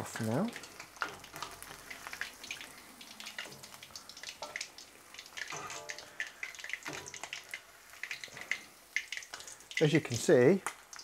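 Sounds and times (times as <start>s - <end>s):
hot oil crackling and popping: 0.0s - 11.0s.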